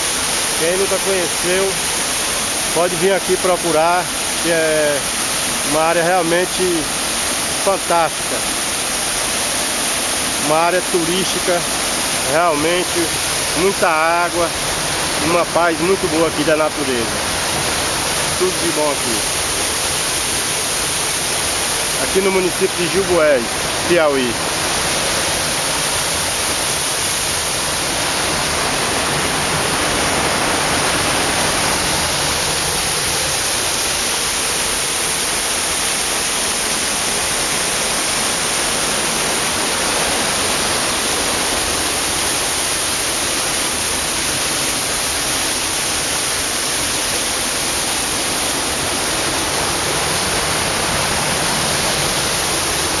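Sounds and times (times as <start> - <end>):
waterfall pouring over rocks: 0.0 - 53.0.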